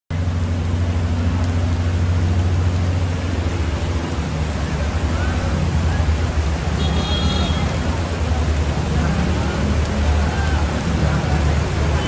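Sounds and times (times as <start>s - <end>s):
floodwater rushing: 0.1s - 12.0s
rain: 0.1s - 12.0s
vehicles driving through water: 0.1s - 12.0s.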